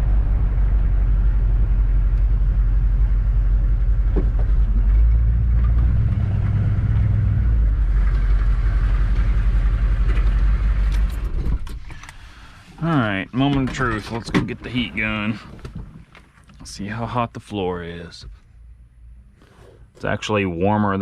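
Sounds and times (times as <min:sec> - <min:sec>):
engine and road noise rumble: 0:00.0 - 0:21.0.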